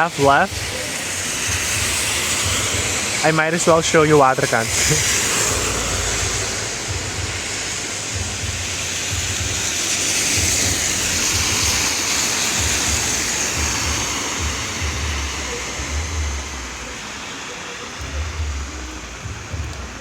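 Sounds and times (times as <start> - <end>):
wind buffeting microphone: 0.0 - 17.2.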